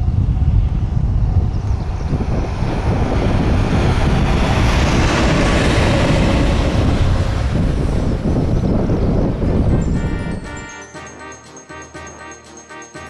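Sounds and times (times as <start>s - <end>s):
electric locomotive passing: 0.0s - 13.0s.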